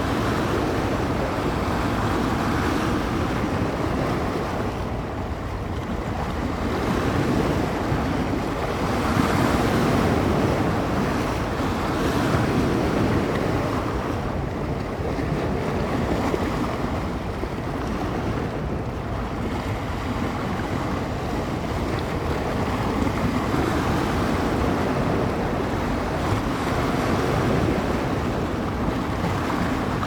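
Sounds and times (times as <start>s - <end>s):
waves breaking on shore: 0.0s - 30.0s
wind buffeting microphone: 0.0s - 30.0s.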